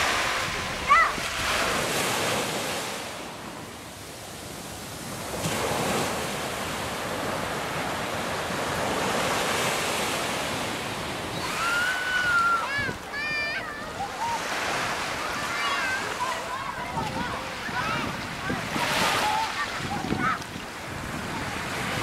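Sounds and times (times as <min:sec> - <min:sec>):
sea surf washing onto beach: 0:00.0 - 0:22.0.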